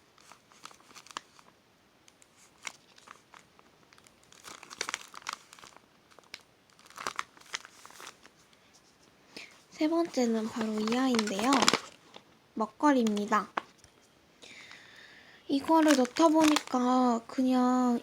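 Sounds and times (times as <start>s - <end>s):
plastic packaging crinkling: 0.1s - 8.6s, 9.4s - 18.0s.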